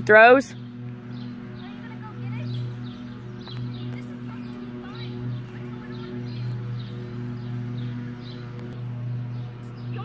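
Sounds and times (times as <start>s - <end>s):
low held background music: 0.0s - 10.0s.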